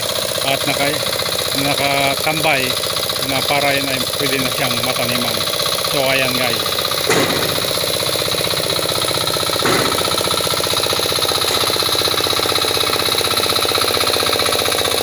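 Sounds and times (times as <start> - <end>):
hand tractor engine running: 0.0 - 15.0.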